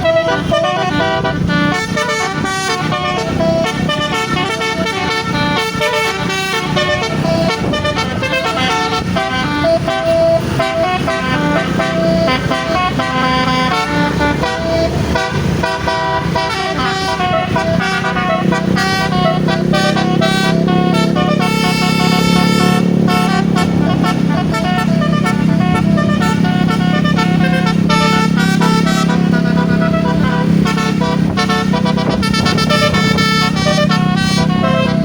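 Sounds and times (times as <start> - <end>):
bus rumble and traffic: 0.0 - 35.0
musical air horn tune: 0.0 - 35.0.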